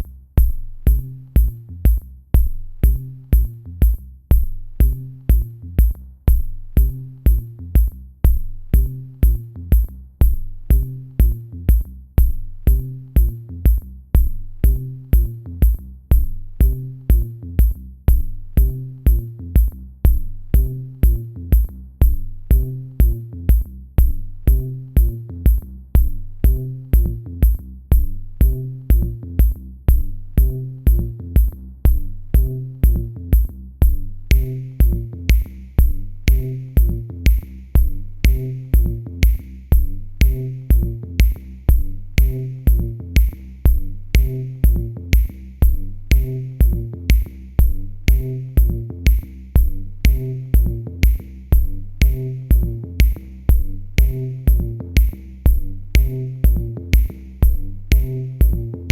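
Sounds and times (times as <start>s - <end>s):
drum machine beat: 0.0s - 58.9s
electronic bass line: 0.0s - 58.9s.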